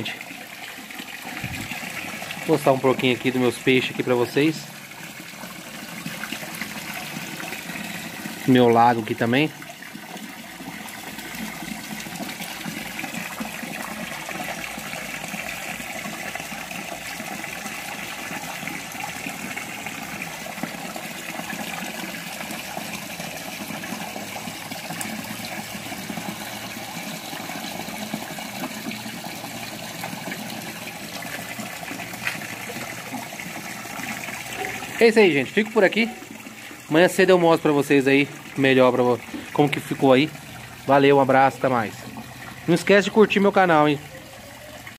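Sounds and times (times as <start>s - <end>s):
water splashing into pool: 0.0s - 44.9s.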